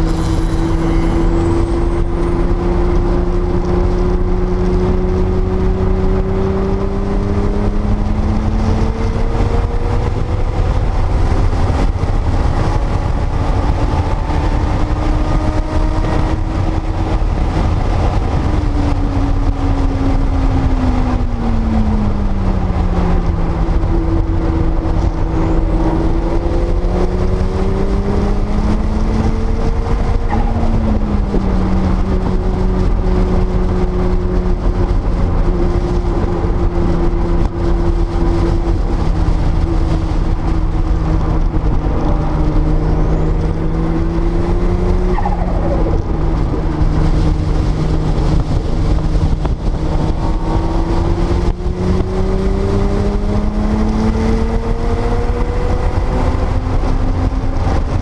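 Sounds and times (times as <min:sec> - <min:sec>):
car engine accelerating: 0:00.0 - 0:58.0
steady low rumble: 0:00.0 - 0:58.0.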